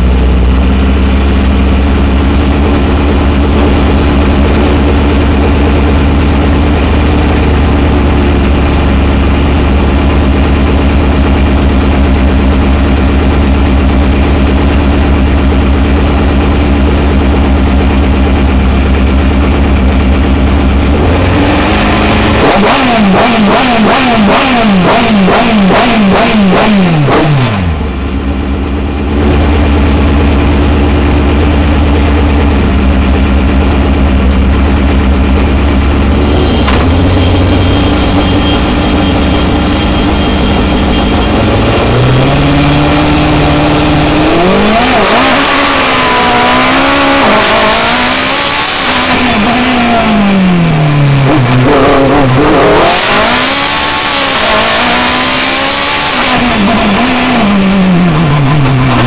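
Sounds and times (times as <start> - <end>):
engine revving: 0.0 - 28.2, 28.9 - 59.0
racing car engine idling: 0.0 - 48.2, 48.9 - 53.8, 56.2 - 59.0.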